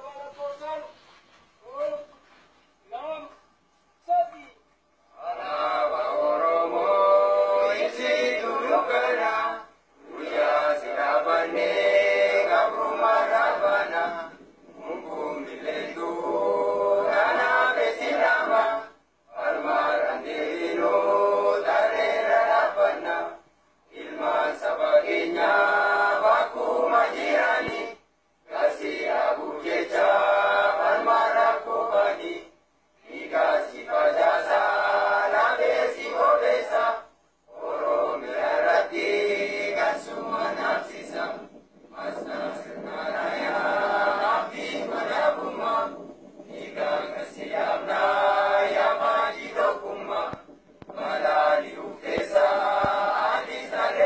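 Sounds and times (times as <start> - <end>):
group singing chant-like song: 5.1 - 54.0.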